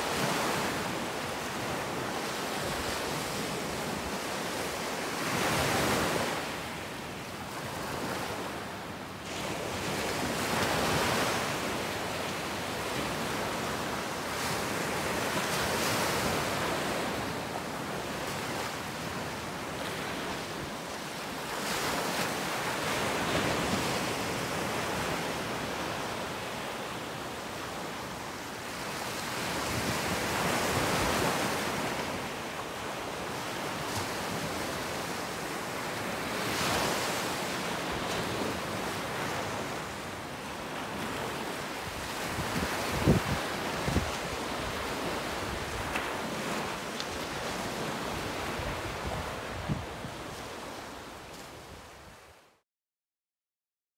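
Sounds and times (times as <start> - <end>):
ocean surf breaking: 7.6 - 51.6.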